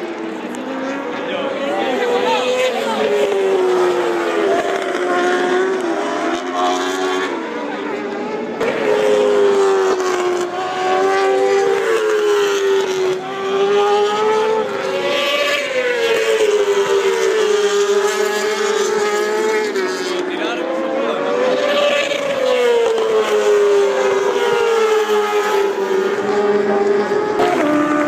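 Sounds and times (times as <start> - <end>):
racing motorcycle engines revving: 0.0 - 28.0.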